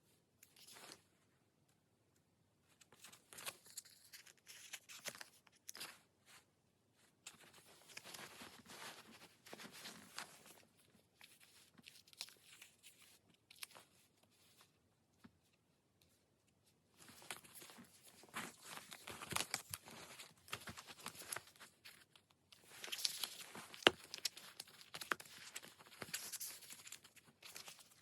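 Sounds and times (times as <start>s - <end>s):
paper rustling and crinkling: 2.8s - 14.7s, 17.0s - 28.0s.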